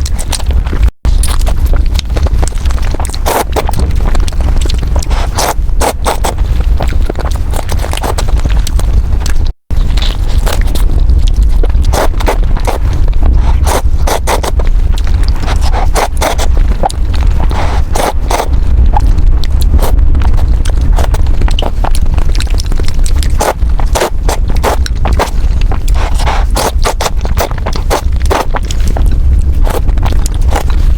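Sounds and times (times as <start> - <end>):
noodles slurped and chewed: 0.0 - 30.9
steady low rumble: 0.0 - 30.9.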